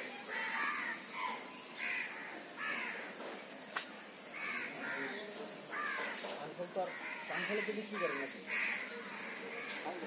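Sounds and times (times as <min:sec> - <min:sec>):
crows cawing: 0:00.2 - 0:03.2, 0:04.3 - 0:10.0.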